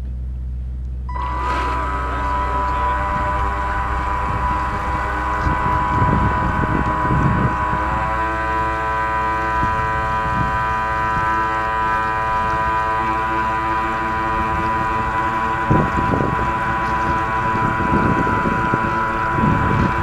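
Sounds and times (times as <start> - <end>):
jet boat motor whining: 1.1 - 20.0
water churning and splashing: 1.2 - 20.0.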